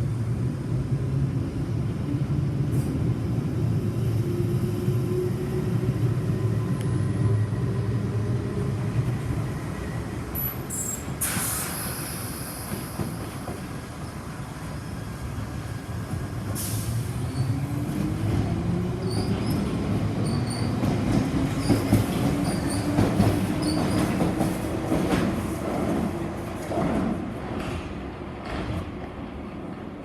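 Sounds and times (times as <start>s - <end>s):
train wheels rumbling: 2.9s - 30.0s.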